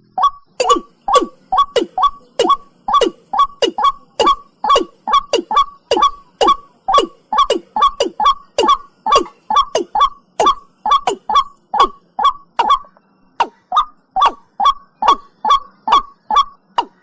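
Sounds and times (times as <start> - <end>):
bird call with descending notes: 0.0 - 17.0.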